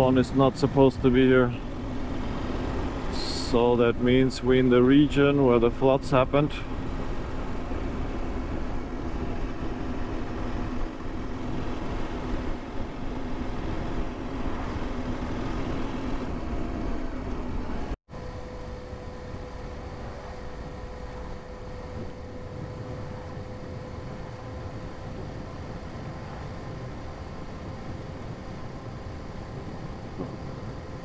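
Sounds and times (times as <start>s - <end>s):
steady higher hum: 0.0s - 31.0s
wind rushing on microphone: 0.0s - 31.0s.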